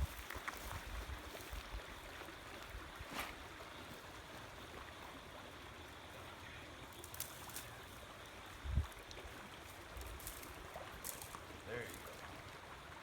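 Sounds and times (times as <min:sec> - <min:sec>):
faint outdoor noise: 0:00.0 - 0:13.0.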